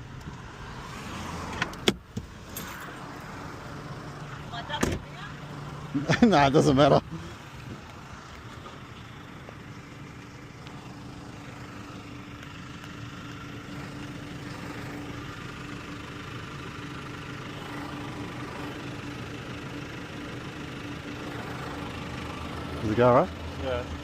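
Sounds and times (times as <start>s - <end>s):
car engine hum from inside cabin: 0.0s - 24.0s.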